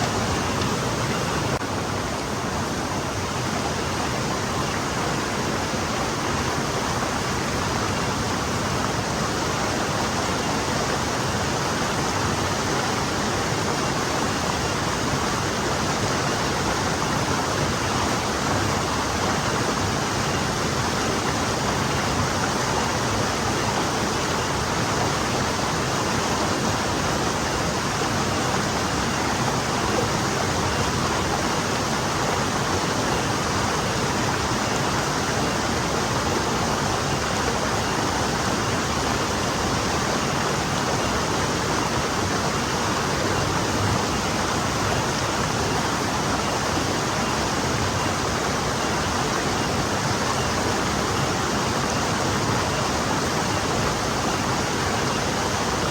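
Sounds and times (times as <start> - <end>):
stream flowing over stones: 0.0 - 55.9.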